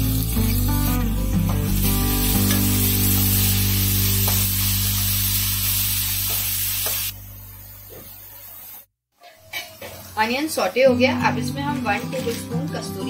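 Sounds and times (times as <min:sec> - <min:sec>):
onion sizzling in fat: 0:00.0 - 0:10.8.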